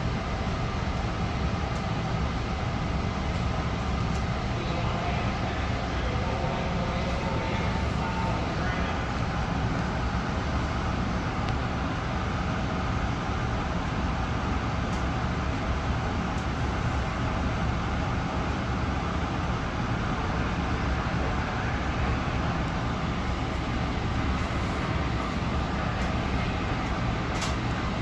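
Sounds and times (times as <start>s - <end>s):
hiss inside train car: 0.0s - 28.0s
train wheels rumbling on rail: 0.0s - 28.0s.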